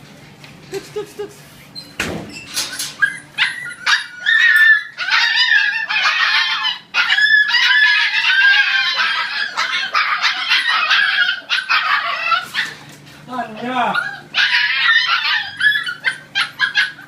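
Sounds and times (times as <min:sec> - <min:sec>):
puppies whining and squealing: 0:00.7 - 0:17.0.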